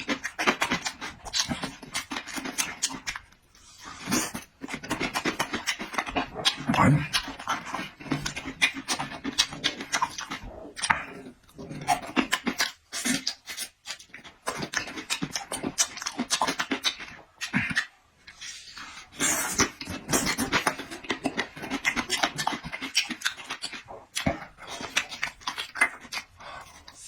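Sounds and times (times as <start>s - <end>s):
person chewing food noisily: 0.0s - 27.0s.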